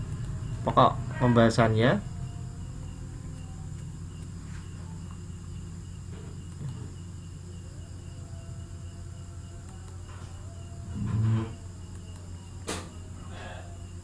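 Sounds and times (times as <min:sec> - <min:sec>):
faint high pulsing tone: 0:00.0 - 0:14.0
low electrical hum: 0:00.0 - 0:14.0.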